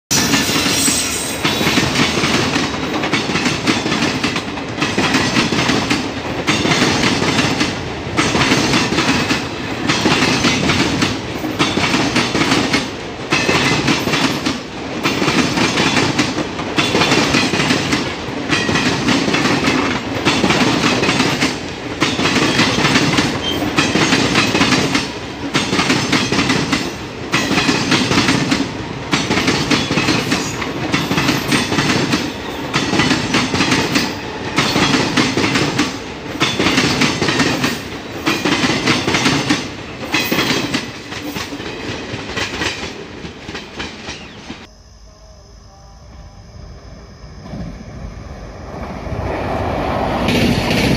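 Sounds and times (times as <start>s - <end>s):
train wheels clacking over rail joints: 0.1s - 44.7s.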